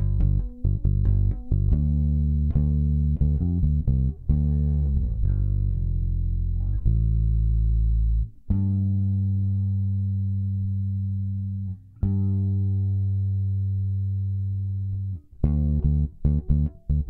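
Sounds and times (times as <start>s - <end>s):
bass guitar plucked: 0.0s - 17.0s.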